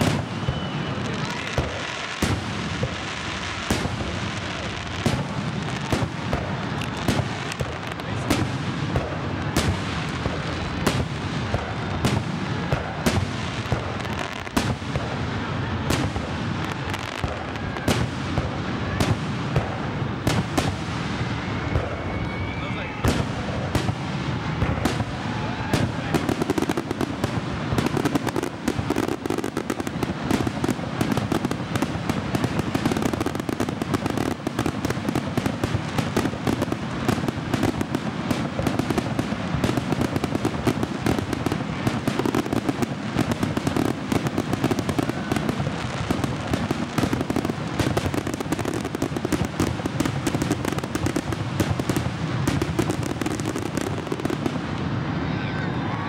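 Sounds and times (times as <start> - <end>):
fireworks bursts and crackles: 0.0 - 56.0.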